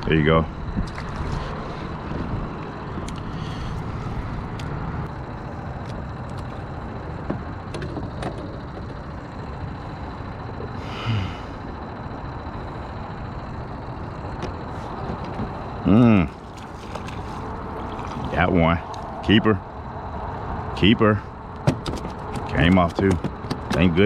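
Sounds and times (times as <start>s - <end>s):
boat engine rumble: 0.0s - 24.0s.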